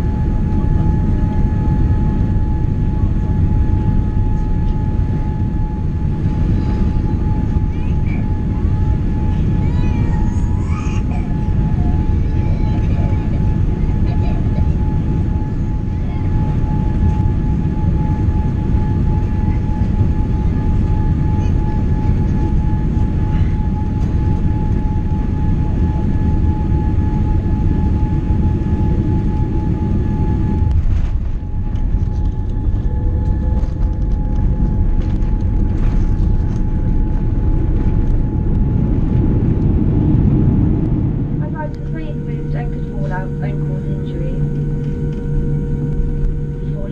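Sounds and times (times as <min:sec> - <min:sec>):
airliner cabin rumble: 0:00.0 - 0:46.9
thin steady whine: 0:00.0 - 0:46.9.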